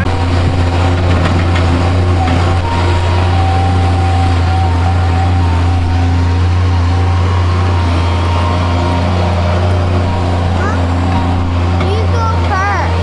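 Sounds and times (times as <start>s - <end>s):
digger engine running: 0.0s - 13.0s.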